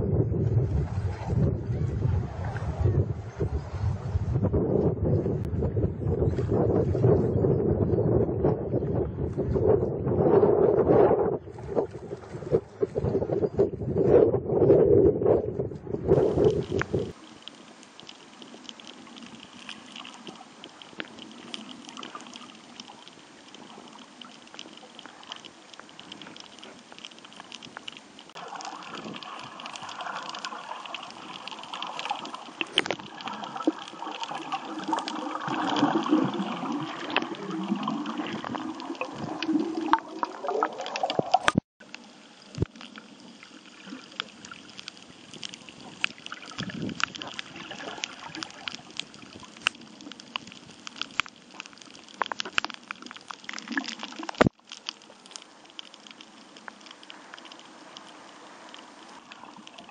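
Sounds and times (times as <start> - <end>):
muffled underwater gurgling: 0.0 - 59.9.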